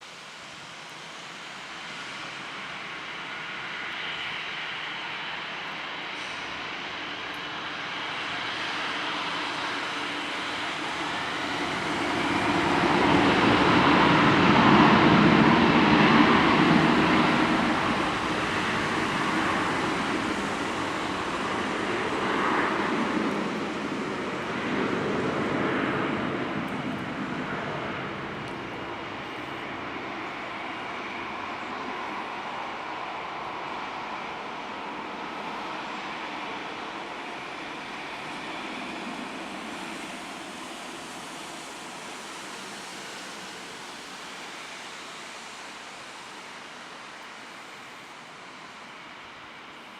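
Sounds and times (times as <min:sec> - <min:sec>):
jet engines roaring: 0:00.2 - 0:49.9.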